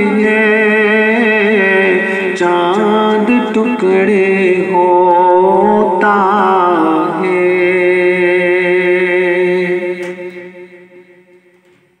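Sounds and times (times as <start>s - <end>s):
man singing unaccompanied: 0.0s - 11.3s.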